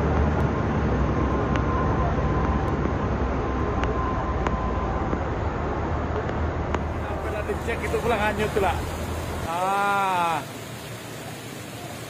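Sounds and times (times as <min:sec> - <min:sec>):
heavy rain: 0:00.0 - 0:12.0
rushing floodwater: 0:00.0 - 0:12.0.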